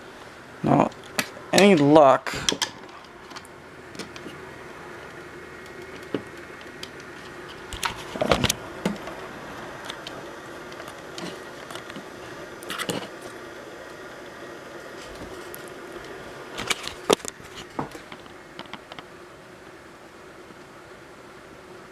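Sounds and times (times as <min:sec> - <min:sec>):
equipment humming: 0:00.0 - 0:21.9.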